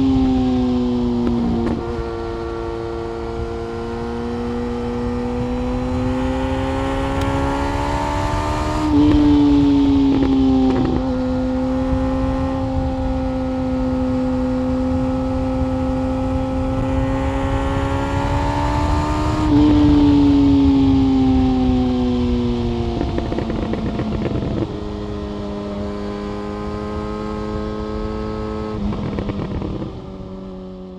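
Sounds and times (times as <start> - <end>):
motorcycle engine at speed: 0.0 - 30.9.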